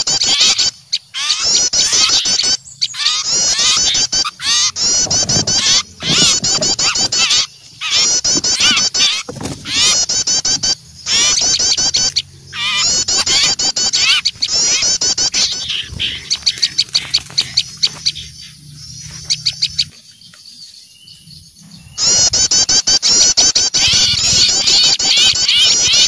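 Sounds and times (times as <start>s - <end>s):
songbirds scolding chips and trills: 0.0s - 26.0s.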